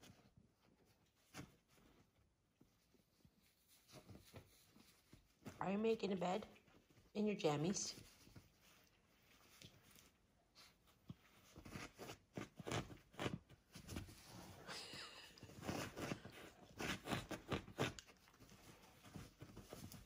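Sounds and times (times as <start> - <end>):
bedding rustling: 0.0 - 20.0.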